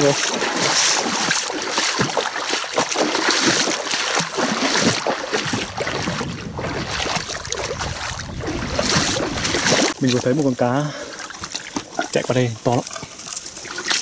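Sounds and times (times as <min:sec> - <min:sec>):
wading through shallow water: 0:00.0 - 0:14.0.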